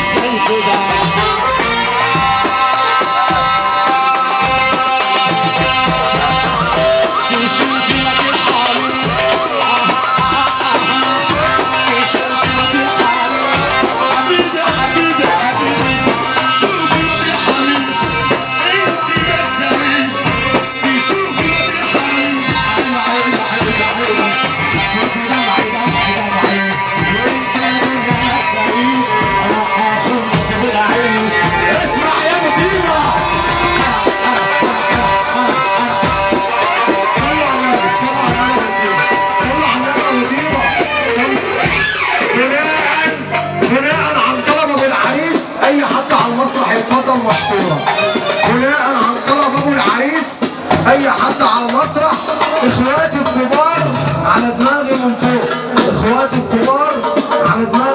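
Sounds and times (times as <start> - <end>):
fast percussion beat: 0.0 - 57.9
jingling hand percussion: 0.0 - 57.9.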